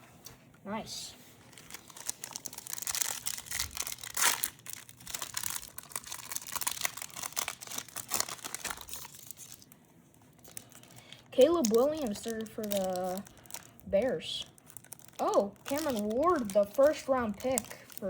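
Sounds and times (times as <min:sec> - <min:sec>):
card pack wrapper crinkling: 0:01.5 - 0:18.0.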